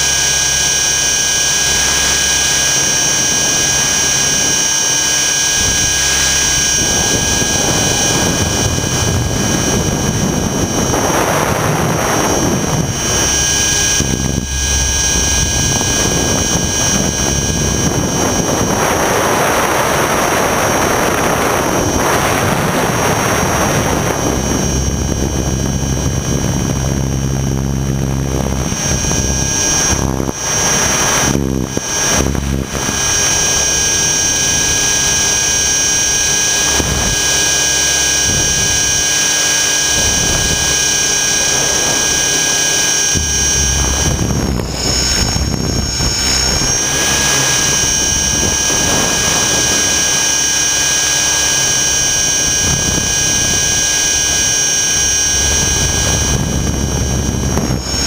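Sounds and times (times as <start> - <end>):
helicopter motor whine: 0.0 - 58.0
rotor noise: 0.0 - 58.0
rushing air: 0.0 - 58.0.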